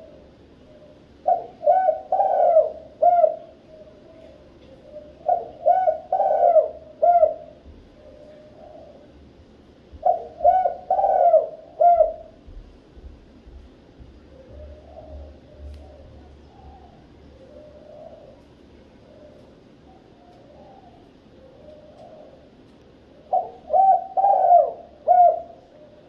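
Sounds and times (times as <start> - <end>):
dove cooing: 0.0 - 12.6, 14.0 - 26.0.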